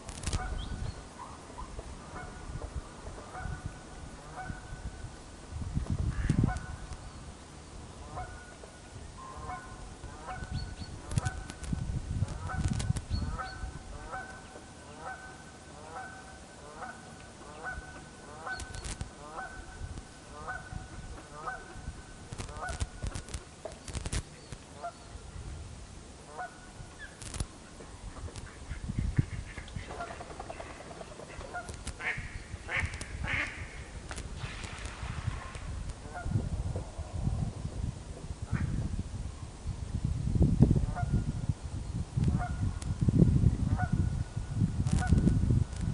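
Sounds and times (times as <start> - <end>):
wind buffeting microphone: 0.0 - 14.5, 17.6 - 24.6, 25.2 - 45.9.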